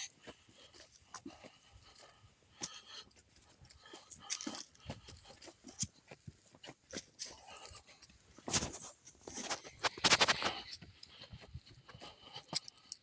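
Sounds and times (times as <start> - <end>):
footsteps crunching on dirt trail: 0.0 - 13.0.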